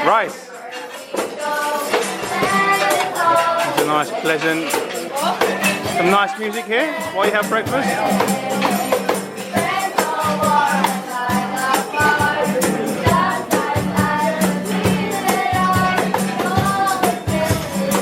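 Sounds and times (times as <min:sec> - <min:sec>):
light percussion beat: 0:00.0 - 0:18.0
live band playing: 0:01.0 - 0:18.0.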